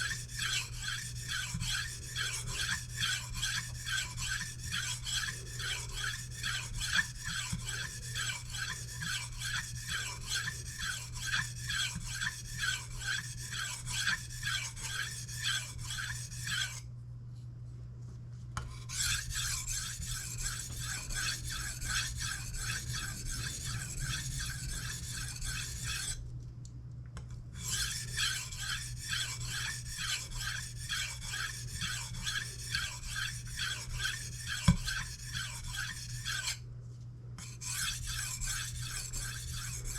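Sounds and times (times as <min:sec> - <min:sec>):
knife scraping on whetstone: 0:00.0 - 0:16.8, 0:18.6 - 0:26.2, 0:27.6 - 0:36.6, 0:37.4 - 0:39.9
steady low hum: 0:00.0 - 0:34.0.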